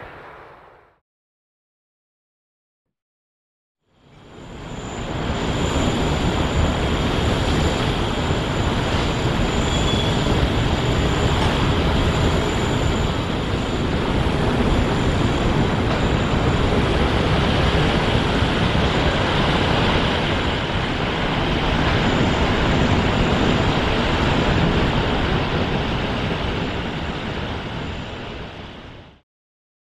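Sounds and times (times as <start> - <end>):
jet engines rushing: 4.1 - 29.2.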